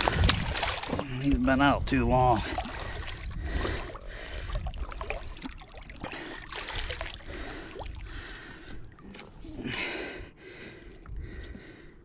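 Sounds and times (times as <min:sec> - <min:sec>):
water sloshing and trickling: 0:00.0 - 0:09.7.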